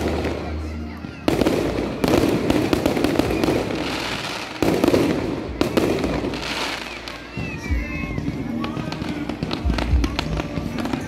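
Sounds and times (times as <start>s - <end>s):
crackling fizz of fireworks: 0.0s - 11.0s
fireworks bursting: 0.0s - 11.0s.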